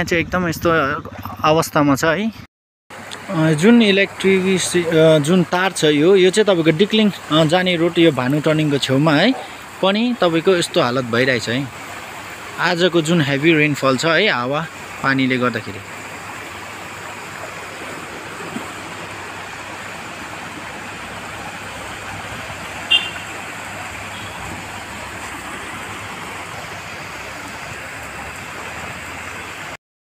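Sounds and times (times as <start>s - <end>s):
heavy rain falling: 2.9s - 29.8s.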